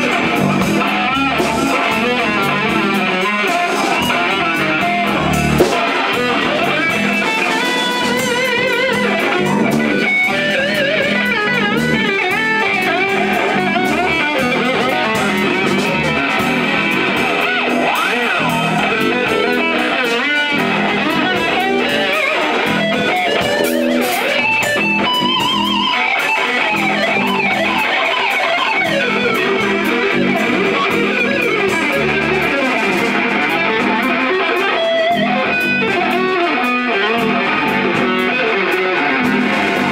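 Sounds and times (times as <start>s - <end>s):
bass guitar: 0.0s - 39.9s
drums: 0.0s - 39.9s
electric guitar lead: 0.0s - 39.9s.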